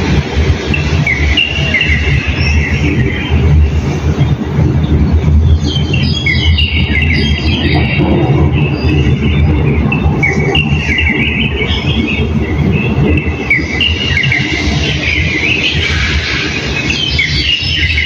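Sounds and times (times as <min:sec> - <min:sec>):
steady low rumble: 0:00.0 - 0:18.0
small birds chirping: 0:00.6 - 0:18.0.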